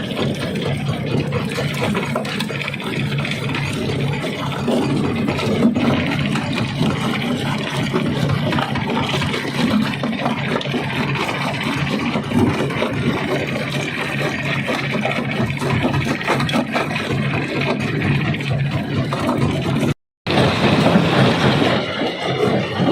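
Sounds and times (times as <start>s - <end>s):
engine drone: 0.0s - 22.9s.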